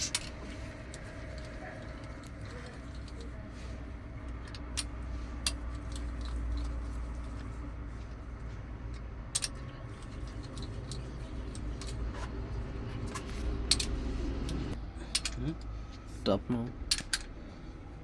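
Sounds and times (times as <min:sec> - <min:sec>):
engine idling: 0:00.0 - 0:16.3.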